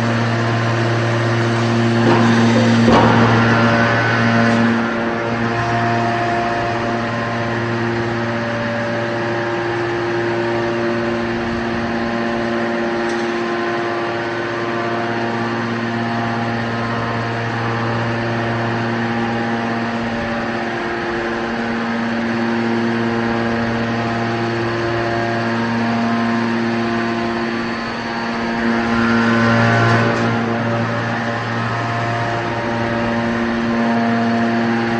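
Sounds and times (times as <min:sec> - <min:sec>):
hydraulic baler motor humming: 0:00.0 - 0:34.9.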